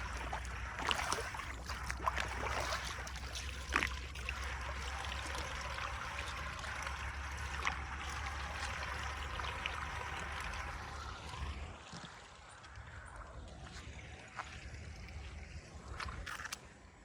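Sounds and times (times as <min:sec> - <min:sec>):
water rushing through drain: 0:00.0 - 0:17.0.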